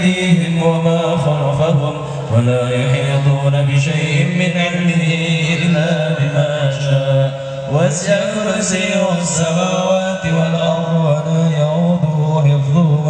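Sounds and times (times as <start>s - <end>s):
man chanting over loudspeaker: 0.0s - 13.0s.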